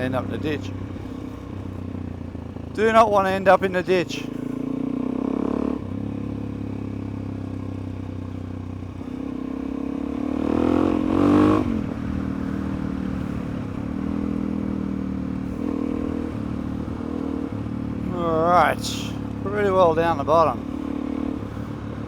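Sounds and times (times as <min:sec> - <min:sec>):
motorcycle engine running and revving: 0:00.0 - 0:22.0.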